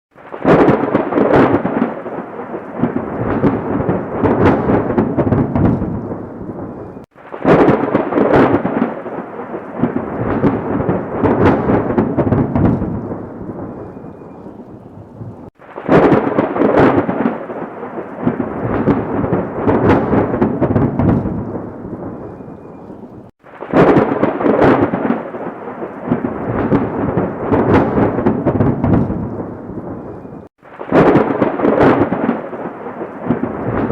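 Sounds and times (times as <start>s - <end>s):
thunderclaps rolling: 0.1s - 33.9s.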